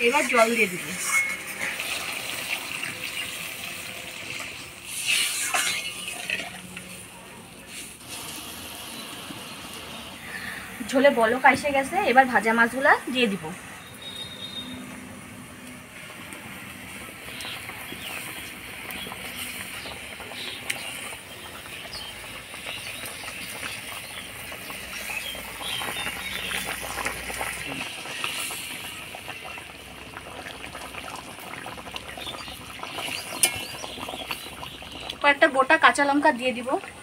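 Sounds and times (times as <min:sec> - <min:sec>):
gravy bubbling in a pan: 0:00.0 - 0:37.0.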